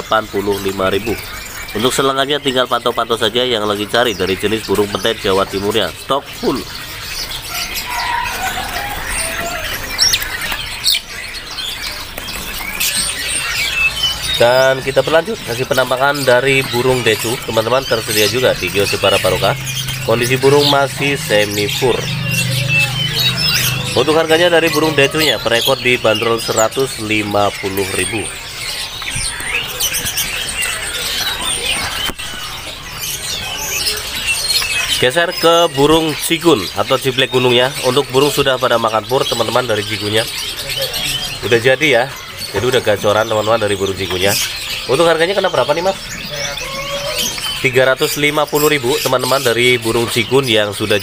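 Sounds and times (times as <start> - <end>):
songbirds chirping and squawking: 0.0 - 51.0.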